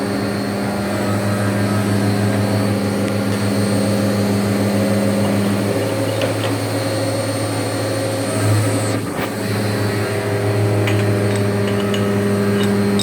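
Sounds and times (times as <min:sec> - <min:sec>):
mill machining tone: 0:00.0 - 0:13.0.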